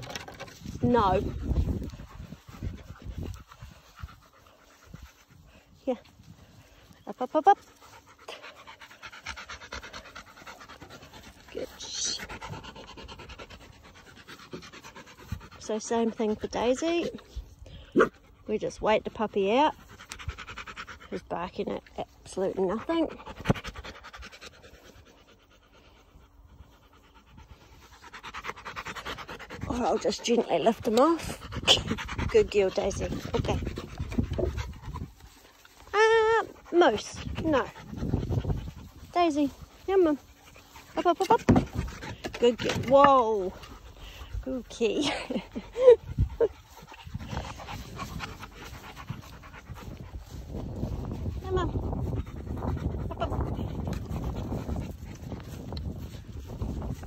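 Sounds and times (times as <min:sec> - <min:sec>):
dog panting: 0:00.0 - 0:57.0.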